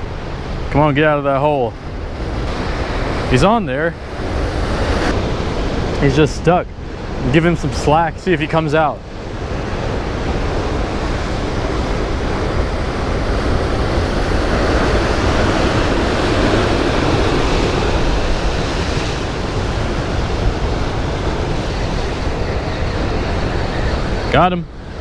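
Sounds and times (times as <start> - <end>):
wind rumbling on microphone: 0.0 - 25.0
surf breaking over rocks: 2.2 - 25.0.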